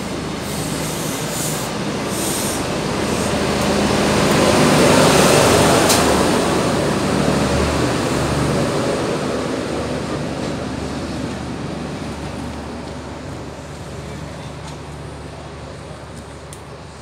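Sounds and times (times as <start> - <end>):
diesel train passing at speed: 0.0 - 17.0
train wheel noise: 0.0 - 17.0.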